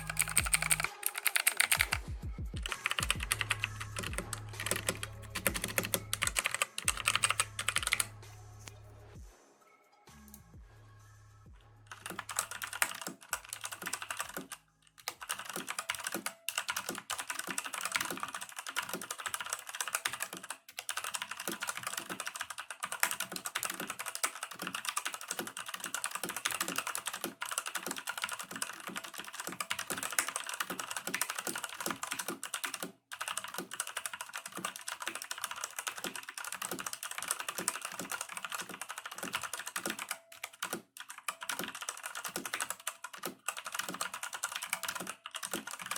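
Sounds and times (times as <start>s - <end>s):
mechanical keyboard typing: 0.0s - 2.0s, 2.6s - 8.1s, 11.9s - 45.9s.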